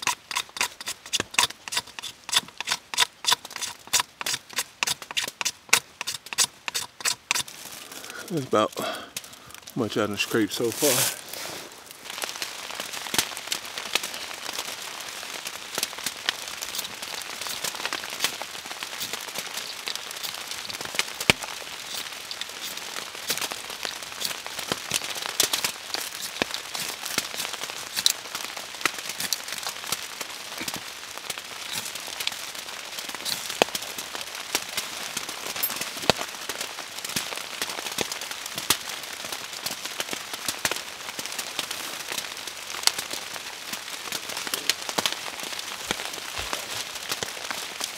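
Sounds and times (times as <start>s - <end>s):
rain pattering: 7.5s - 47.9s.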